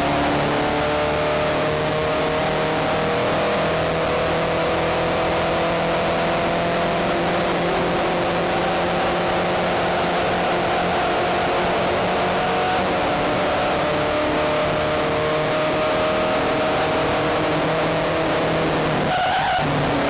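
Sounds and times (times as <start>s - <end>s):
race car engine at high revs: 0.0s - 20.0s.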